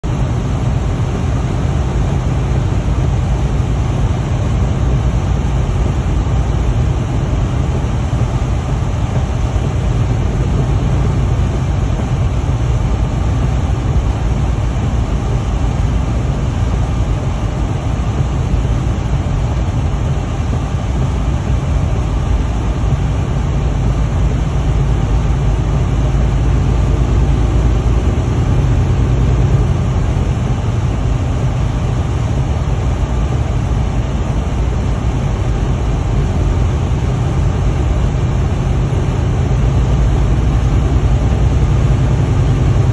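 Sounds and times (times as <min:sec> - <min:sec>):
truck diesel engine drone: 0:00.0 - 0:42.9.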